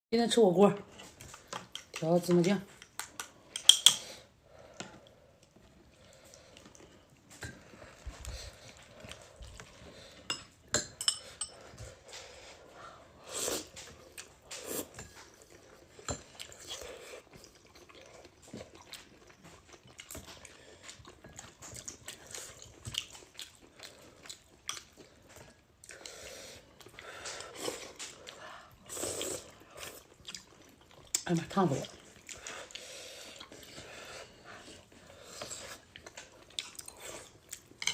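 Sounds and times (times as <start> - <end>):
person chewing food: 0.9 - 2.1, 2.8 - 37.9.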